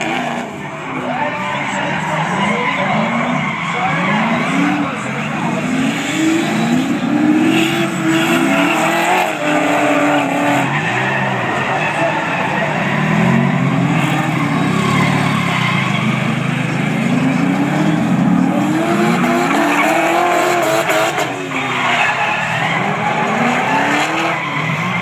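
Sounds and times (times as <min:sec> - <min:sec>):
car engines revving: 0:00.0 - 0:25.0
tyres screeching: 0:00.0 - 0:25.0.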